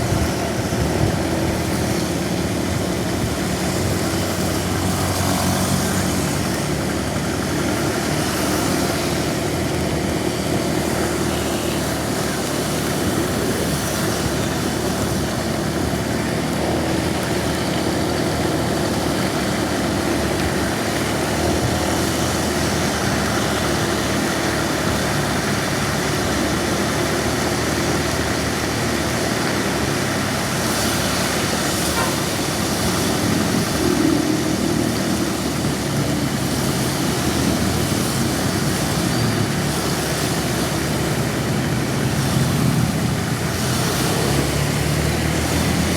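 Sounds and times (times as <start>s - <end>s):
road and wind noise: 0.0s - 45.9s
vehicle engine droning: 0.0s - 45.9s.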